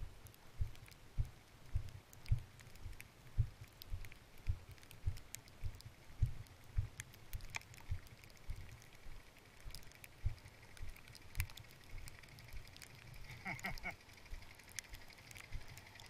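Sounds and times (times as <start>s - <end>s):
light ticks: 0.0s - 16.0s.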